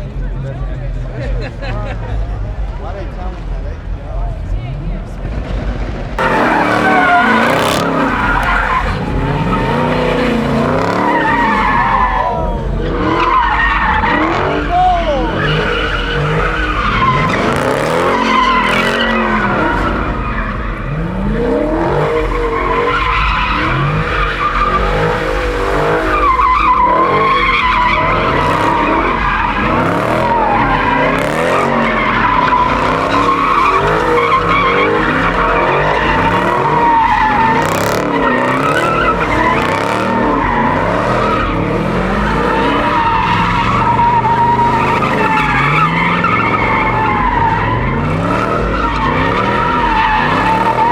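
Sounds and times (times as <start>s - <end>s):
car engines revving: 0.0s - 50.9s
tyres squealing: 6.2s - 50.9s.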